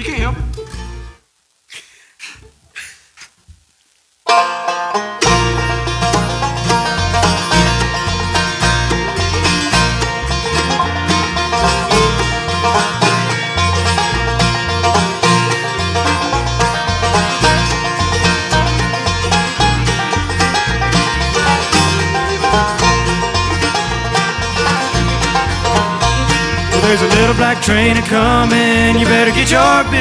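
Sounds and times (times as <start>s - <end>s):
banjo rolls: 0.0s - 1.2s, 4.3s - 30.0s
bass line: 0.0s - 1.2s, 5.2s - 30.0s
guitar: 0.0s - 1.2s, 4.3s - 30.0s.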